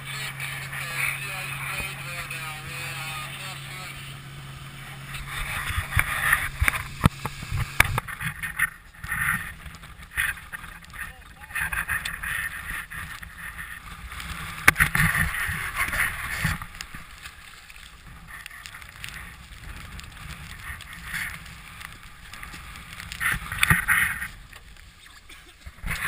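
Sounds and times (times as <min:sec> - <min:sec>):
water splashing around boat hull: 0:00.0 - 0:26.0.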